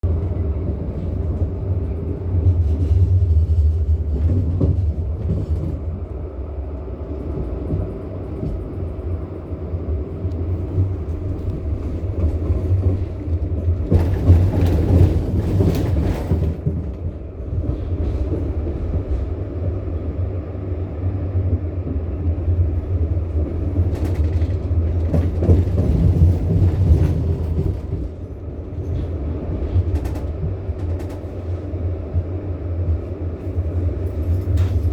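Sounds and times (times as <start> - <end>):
tram rumbling on rails: 0.0 - 34.9
tram hiss and rattle: 0.1 - 34.9.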